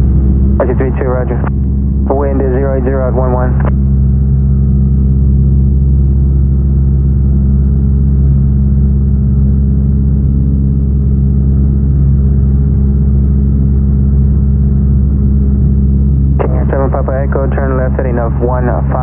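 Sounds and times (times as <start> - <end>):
airplane engine droning: 0.0 - 19.0.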